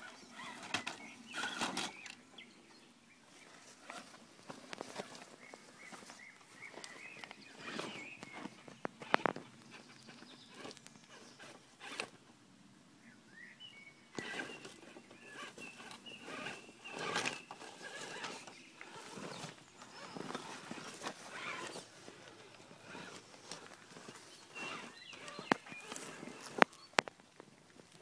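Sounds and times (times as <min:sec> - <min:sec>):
electric motor and gears whining: 0:00.0 - 0:02.2, 0:03.5 - 0:12.2, 0:14.1 - 0:26.7.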